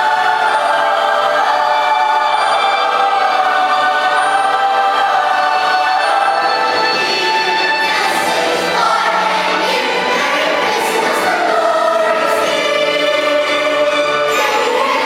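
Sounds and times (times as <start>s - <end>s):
choir singing long notes: 0.0s - 15.0s.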